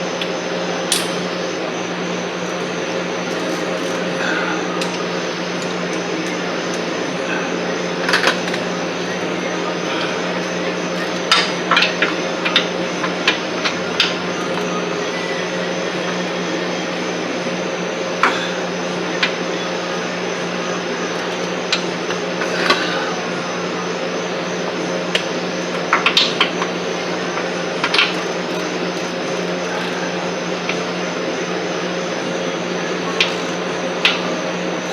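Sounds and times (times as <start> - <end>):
steady hum: 0.0 - 34.9.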